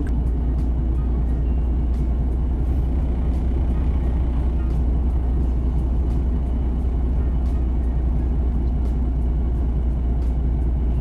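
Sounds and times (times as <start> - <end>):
diesel truck engine rumble: 0.0 - 11.0.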